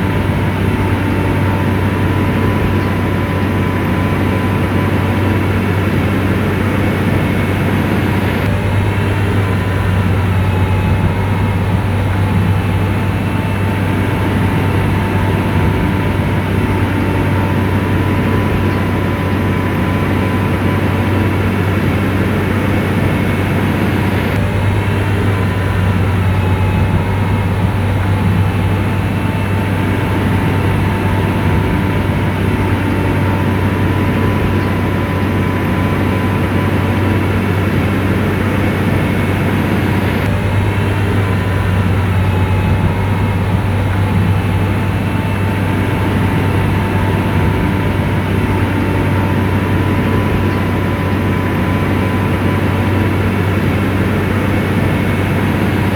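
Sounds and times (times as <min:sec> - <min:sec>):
bulldozer diesel engine running: 0:00.0 - 0:55.9
thin steady whine: 0:00.0 - 0:55.9.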